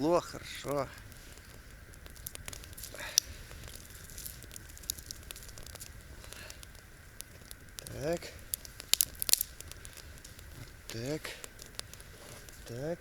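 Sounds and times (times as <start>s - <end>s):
campfire crackling: 0.0s - 13.0s
wood fire popping and snapping: 0.0s - 13.0s.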